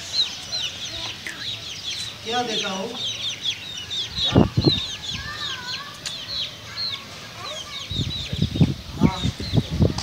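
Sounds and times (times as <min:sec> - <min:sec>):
rapid high bird chirps: 0:00.0 - 0:09.8.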